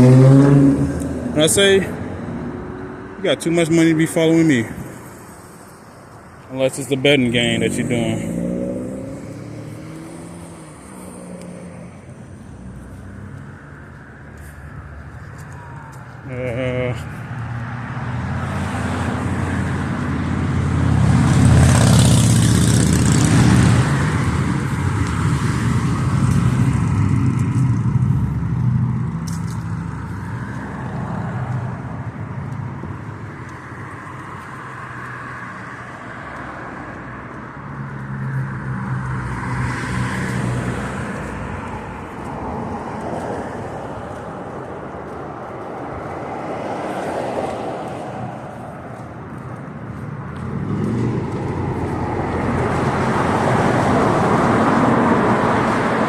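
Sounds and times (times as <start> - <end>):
vehicle passing loudly: 0.0 - 5.3, 6.6 - 15.8, 16.8 - 56.0
street traffic engine hum: 0.0 - 56.0.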